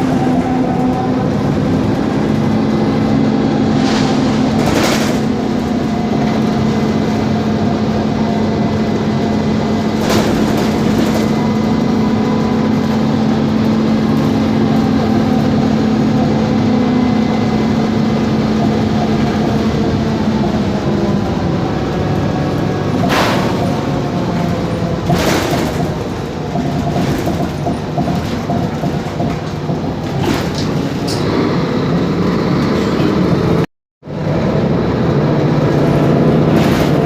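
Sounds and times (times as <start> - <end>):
bus engine hum-whine: 0.0 - 37.0.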